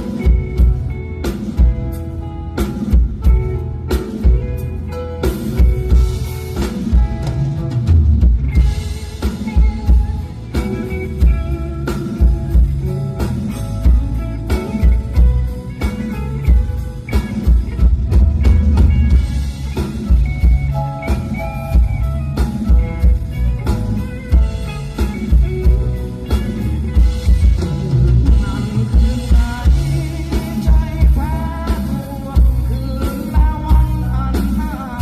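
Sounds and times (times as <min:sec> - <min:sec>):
bass: 0:00.0 - 0:35.0
drum kit beat: 0:00.0 - 0:35.0
electric guitar: 0:00.0 - 0:35.0.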